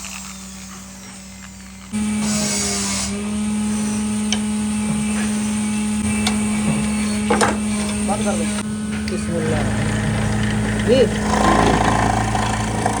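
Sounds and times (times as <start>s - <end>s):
electric motor humming: 0.0s - 13.0s.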